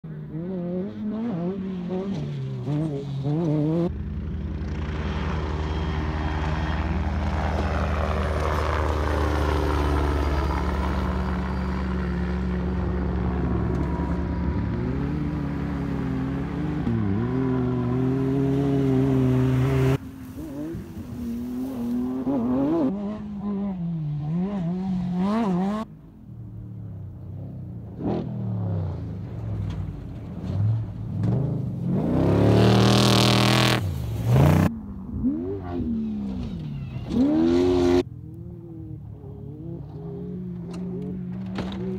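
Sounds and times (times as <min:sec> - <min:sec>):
off-road engines revving: 0:00.1 - 0:26.0, 0:26.8 - 0:41.9.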